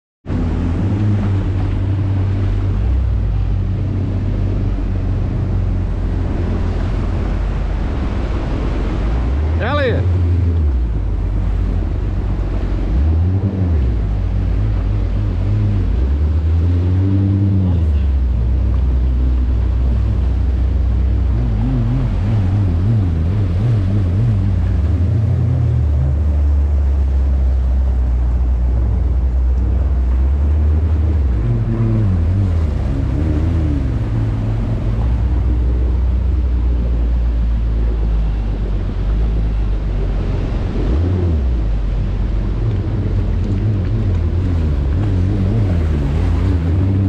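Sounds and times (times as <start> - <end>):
jet ski engine droning: 0.2 - 47.0
water noise: 0.2 - 47.0
wind noise: 0.2 - 47.0.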